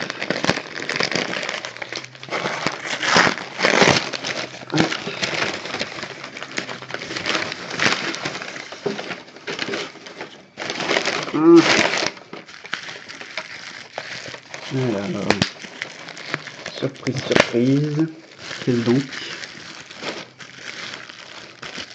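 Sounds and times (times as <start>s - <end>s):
paper wrapping crinkling: 0.0s - 21.9s.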